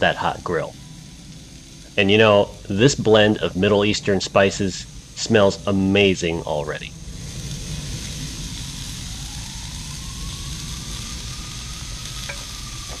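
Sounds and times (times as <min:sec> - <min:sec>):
low engine-like rumble: 0:00.0 - 0:13.0
meat sizzling on grill: 0:00.0 - 0:13.0.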